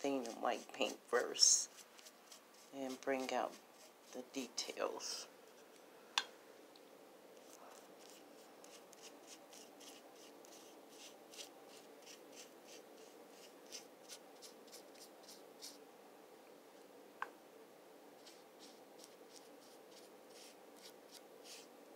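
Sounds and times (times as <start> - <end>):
scratchy brush strokes: 0.0 - 5.9, 7.4 - 15.8, 18.2 - 21.8.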